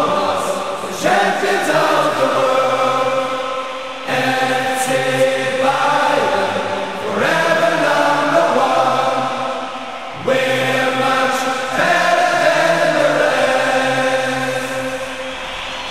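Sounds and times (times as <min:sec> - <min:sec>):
choir singing long held notes: 0:00.0 - 0:15.9.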